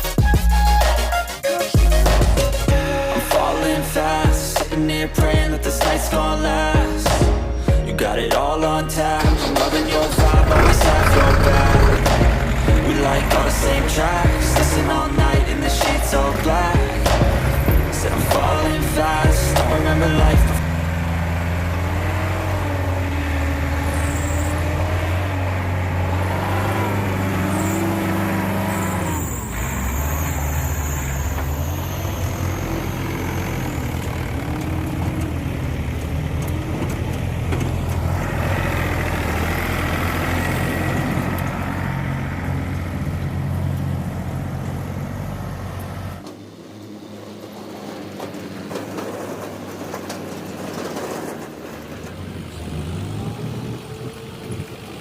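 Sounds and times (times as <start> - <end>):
diesel engine droning: 0.0 - 55.0
engine whine wavering: 0.0 - 55.0.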